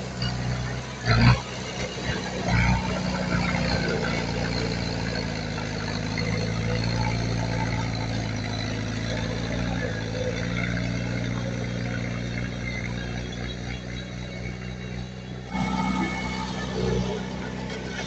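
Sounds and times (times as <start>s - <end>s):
heavy machinery diesel engine: 0.0s - 18.0s.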